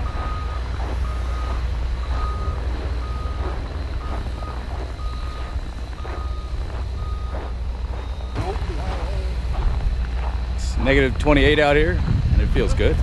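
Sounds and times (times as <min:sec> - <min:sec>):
reversing alarm beeping: 0:00.0 - 0:11.5
low rumble: 0:00.0 - 0:13.0.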